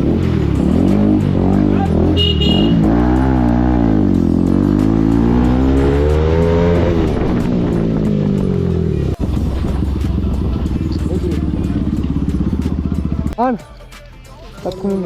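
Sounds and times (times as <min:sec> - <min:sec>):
motorcycle engine revving: 0:00.0 - 0:13.4
music: 0:00.0 - 0:15.0.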